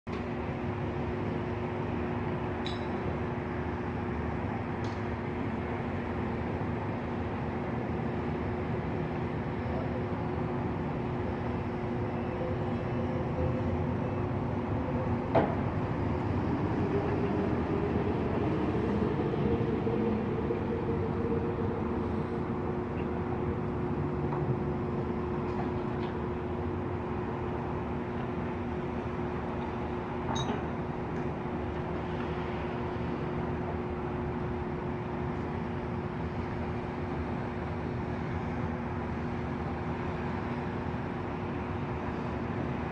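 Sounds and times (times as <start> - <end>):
construction machinery humming: 0.1 - 42.9.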